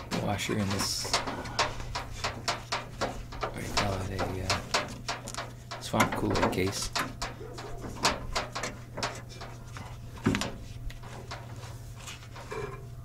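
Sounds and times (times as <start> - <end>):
metallic hardware clicks: 0.0 - 11.7
steady low hum: 0.0 - 13.0.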